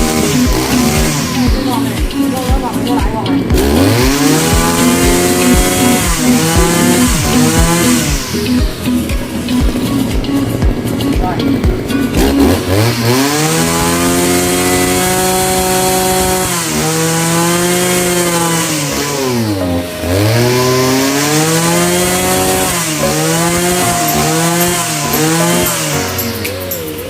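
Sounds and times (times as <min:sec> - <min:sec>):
brushcutter engine revving: 0:00.0 - 0:26.5.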